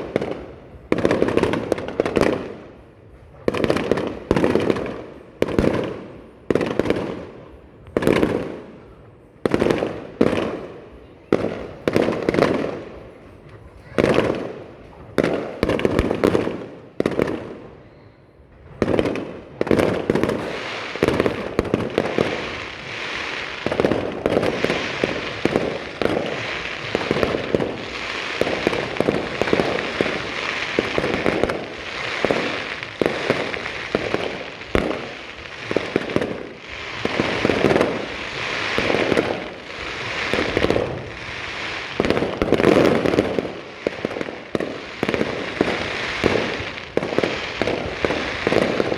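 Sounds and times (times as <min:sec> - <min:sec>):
fireworks fizzing: 0:00.0 - 0:17.8, 0:18.4 - 0:48.9
fireworks bangs: 0:00.0 - 0:48.9.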